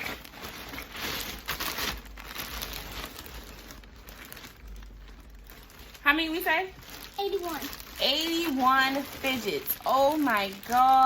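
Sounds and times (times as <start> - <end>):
plastic toys rustling and crinkling: 0.0 - 11.0.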